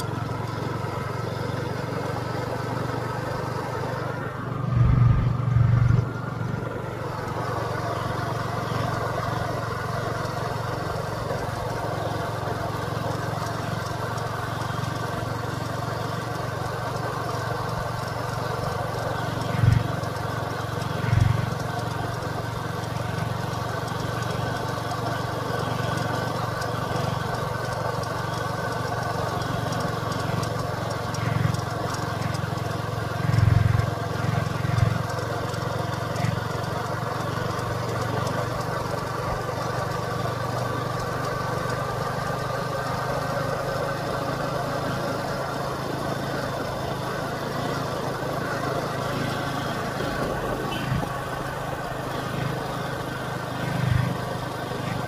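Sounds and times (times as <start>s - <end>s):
motor running: 0.0s - 55.0s.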